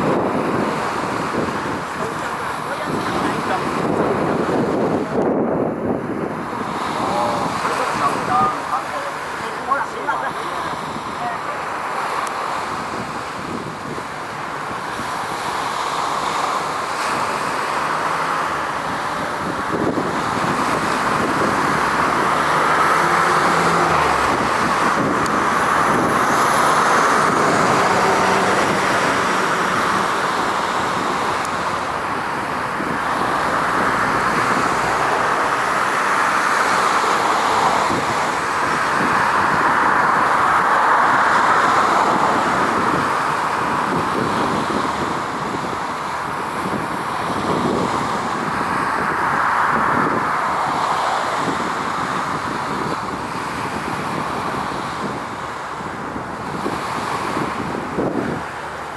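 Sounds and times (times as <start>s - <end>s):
road traffic passing: 0.0s - 58.9s.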